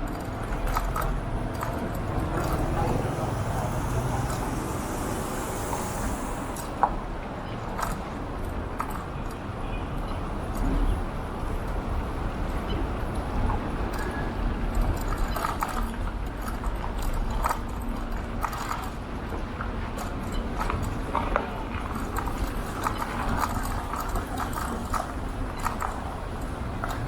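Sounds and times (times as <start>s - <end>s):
scooter clicks and rattles: 0.0s - 5.5s, 6.3s - 27.0s
road noise: 0.0s - 27.0s.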